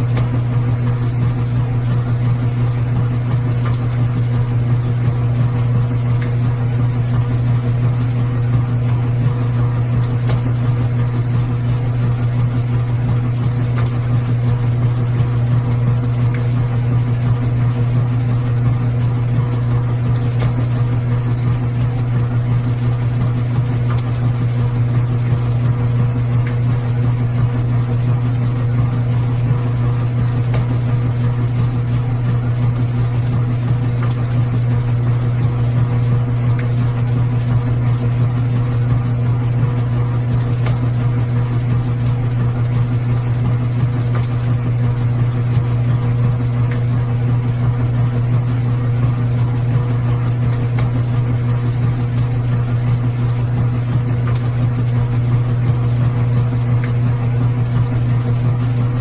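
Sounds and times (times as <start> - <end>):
washing machine humming: 0.0 - 59.0.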